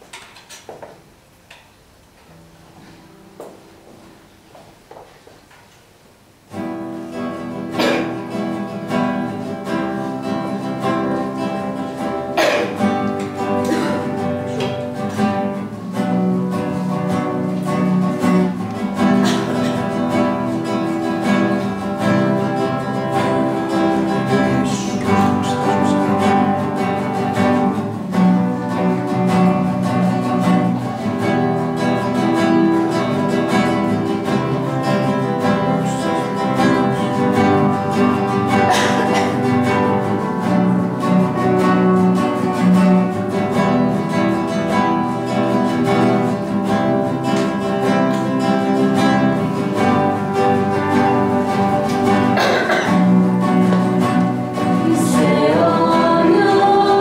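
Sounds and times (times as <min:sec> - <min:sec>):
strummed acoustic guitar: 0:06.4 - 0:57.0.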